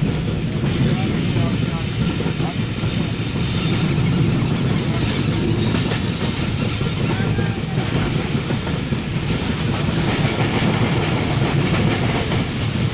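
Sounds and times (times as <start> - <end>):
train wheels on rails: 0.0 - 12.9.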